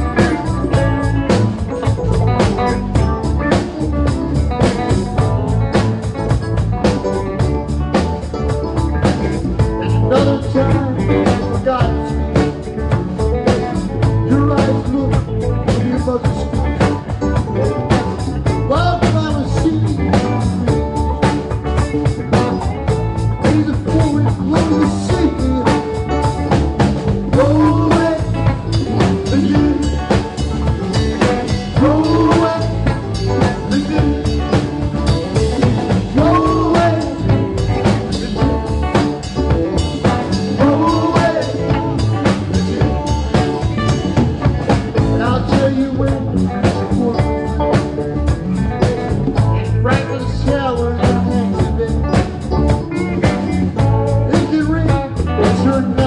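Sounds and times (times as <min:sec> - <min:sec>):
guitar lead lines bending: 0:00.0 - 0:56.0
rock band playing: 0:00.0 - 0:56.0
steady drum beat: 0:00.0 - 0:56.0.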